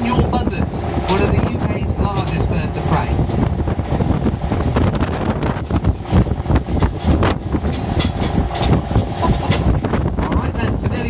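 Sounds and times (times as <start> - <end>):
tractor engine running: 0.0 - 11.0
trailer rattling and knocking: 0.0 - 11.0.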